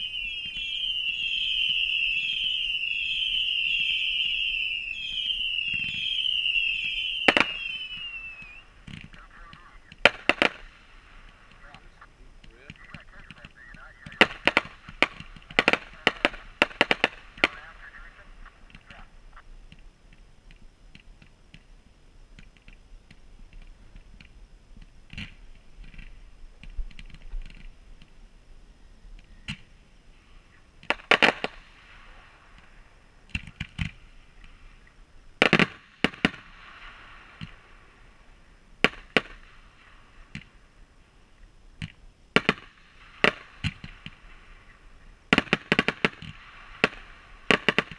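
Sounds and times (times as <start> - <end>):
fountain fireworks hissing: 0.0 - 47.9.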